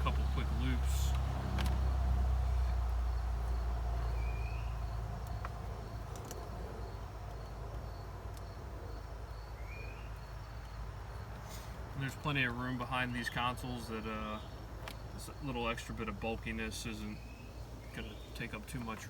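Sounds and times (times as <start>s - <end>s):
insects chirping: 0.0s - 19.0s
low steady rumble: 0.0s - 19.0s.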